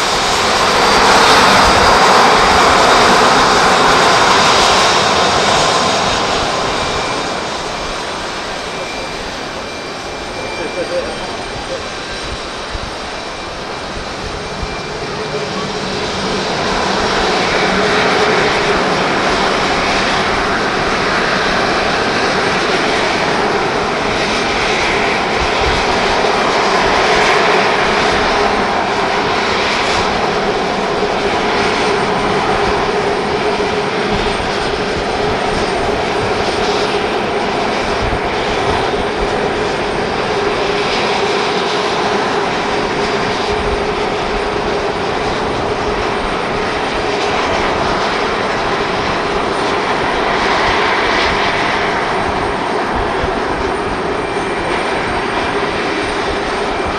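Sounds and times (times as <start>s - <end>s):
jet engine roar: 0.0s - 56.9s.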